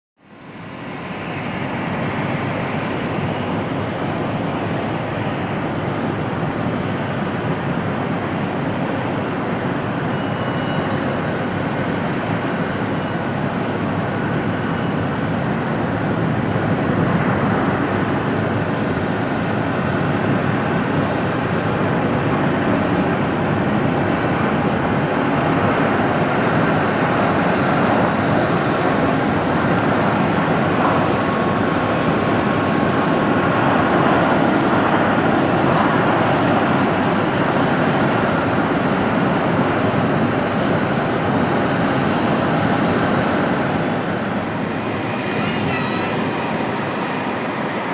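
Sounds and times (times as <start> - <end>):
jet engines rushing: 0.2 - 47.9.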